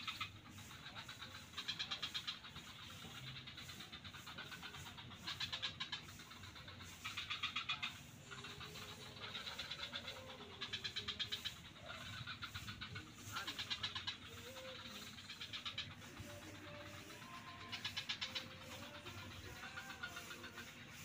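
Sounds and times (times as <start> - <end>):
frog chorus: 0.0 - 21.0
frogs rattling croaks: 0.0 - 21.0.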